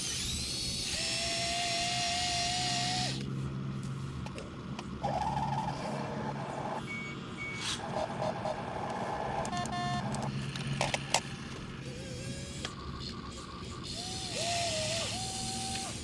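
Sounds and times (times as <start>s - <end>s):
small electric motors humming: 0.0s - 6.9s, 7.6s - 16.0s
machines whirring: 0.0s - 16.0s.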